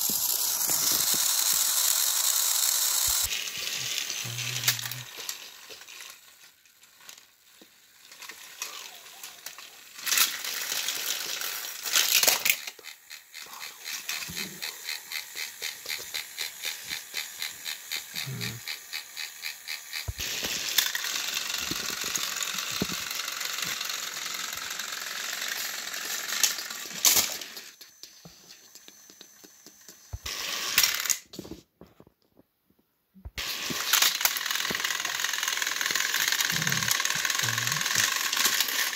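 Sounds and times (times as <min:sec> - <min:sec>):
toy wheels clicking on track: 0:00.0 - 0:31.4, 0:33.4 - 0:38.9
toy train motor whirring: 0:00.0 - 0:31.6, 0:33.4 - 0:38.9.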